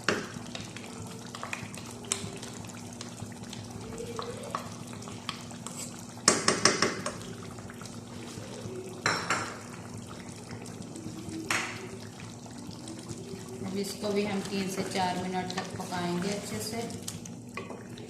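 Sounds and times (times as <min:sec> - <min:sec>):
low sizzle: 0:00.0 - 0:18.0.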